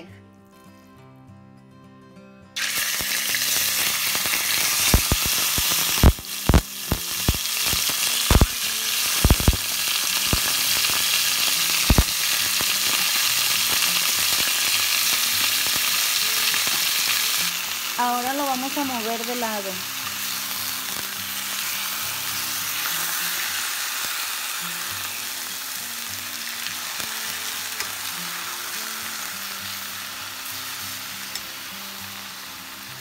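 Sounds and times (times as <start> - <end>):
steak sizzling in frying pan: 2.6 - 33.0.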